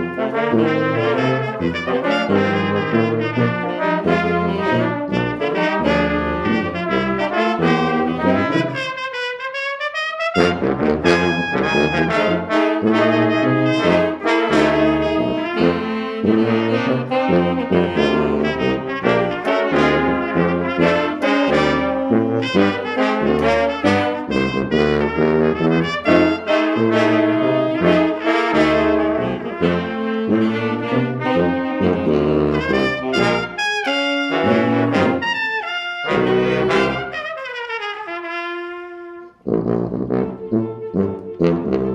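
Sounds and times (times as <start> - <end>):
brass ensemble playing: 0.0 - 41.9.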